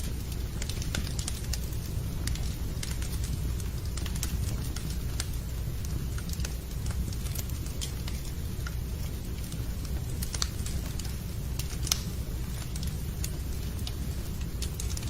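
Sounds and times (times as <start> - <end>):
fire crackling pops and snaps: 0.0 - 15.0
fire rumbling: 0.0 - 15.0.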